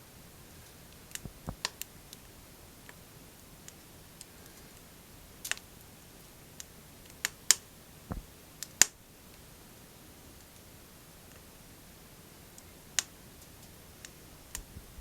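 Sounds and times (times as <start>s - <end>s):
firewood crackling and popping: 0.4s - 9.5s, 10.2s - 15.0s.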